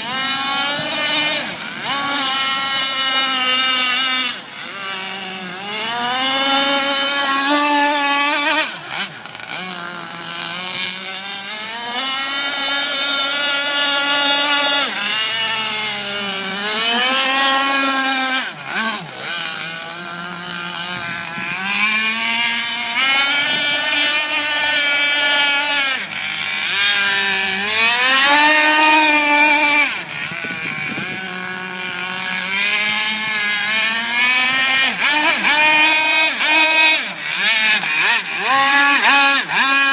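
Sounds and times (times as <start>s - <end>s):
model boat engine revving: 0.0s - 39.9s.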